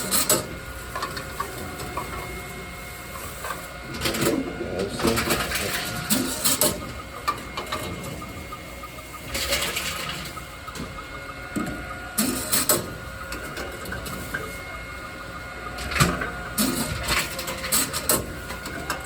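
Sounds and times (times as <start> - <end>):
vending machine whirring: 0.0 - 19.0.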